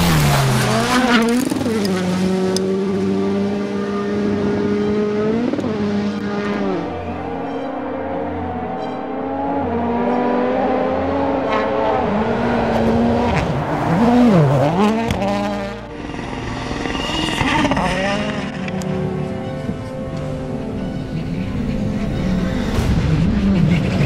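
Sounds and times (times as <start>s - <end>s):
rally car engine at full throttle: 0.0s - 24.0s.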